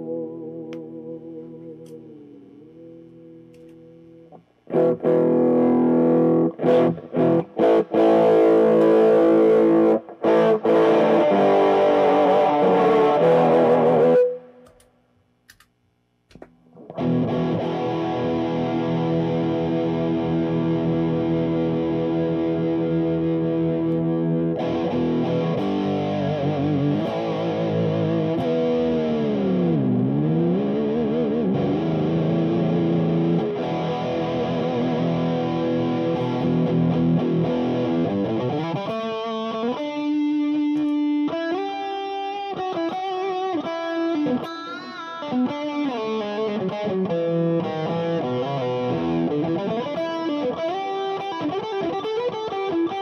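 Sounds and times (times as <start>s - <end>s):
distorted electric guitar: 0.0s - 14.9s, 16.3s - 53.0s.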